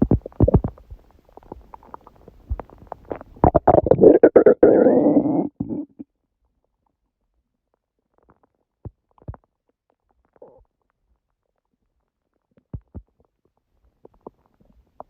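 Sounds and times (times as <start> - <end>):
stomach gurgling: 0.0 - 6.1, 8.0 - 15.0.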